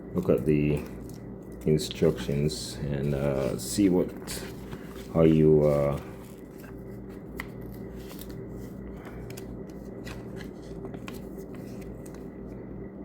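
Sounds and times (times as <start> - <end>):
steady low hum: 0.0 - 13.0
paper rustling and crinkling: 0.8 - 12.5.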